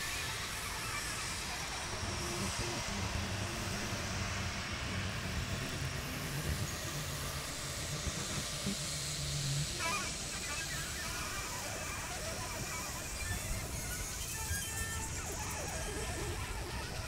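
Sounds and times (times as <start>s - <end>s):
low wavering hums: 1.1s - 17.0s.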